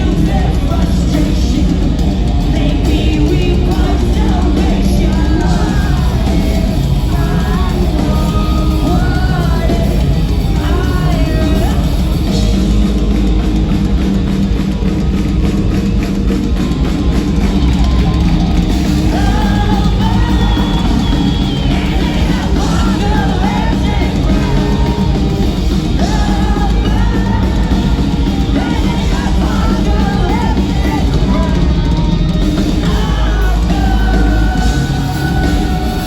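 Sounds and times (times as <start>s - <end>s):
person singing: 0.0s - 13.2s, 18.8s - 36.0s
live rock band playing: 0.0s - 36.0s.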